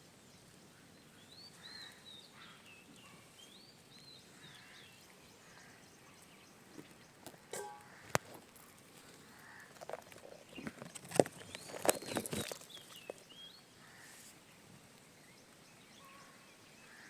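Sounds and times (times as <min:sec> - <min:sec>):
faint birdsong: 0:00.0 - 0:17.0
quiet outdoor background noise: 0:00.0 - 0:17.0.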